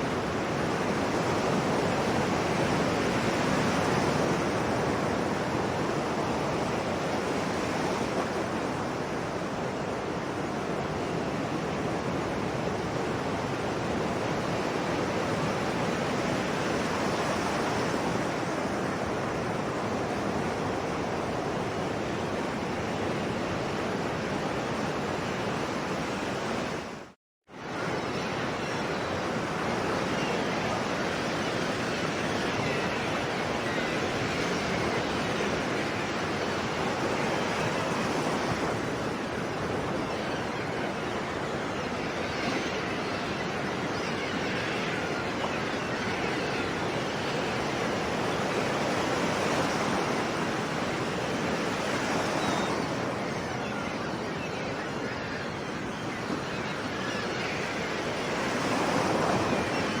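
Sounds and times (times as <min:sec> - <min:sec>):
sea waves breaking on shore: 0:00.0 - 1:00.0.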